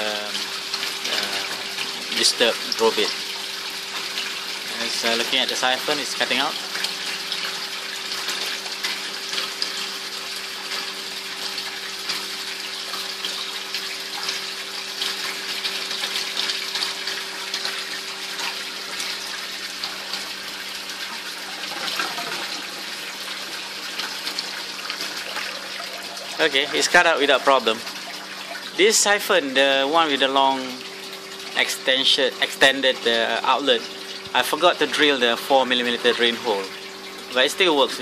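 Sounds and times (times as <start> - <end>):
water splashing from a pipe: 0.0 - 38.0.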